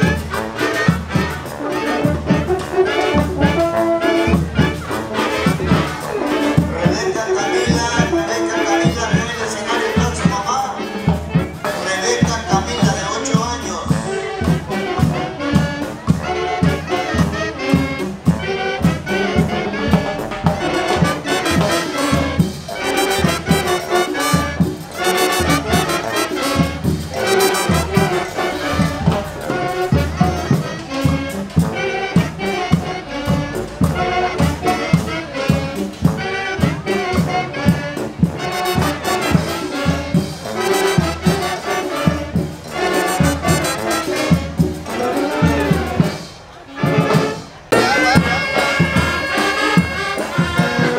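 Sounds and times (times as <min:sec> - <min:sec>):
upbeat music with brass horns: 0:00.0 - 0:50.9.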